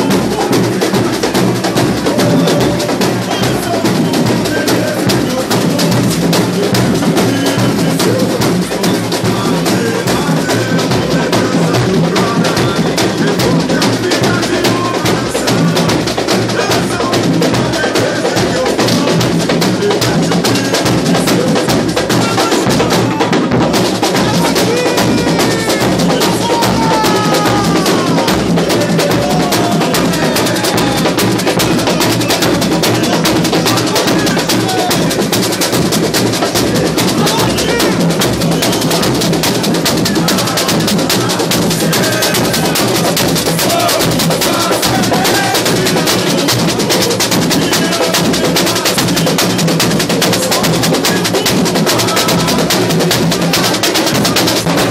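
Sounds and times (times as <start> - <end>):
bass drums pounding: 0.0 - 54.9
samba drumming: 0.0 - 54.9.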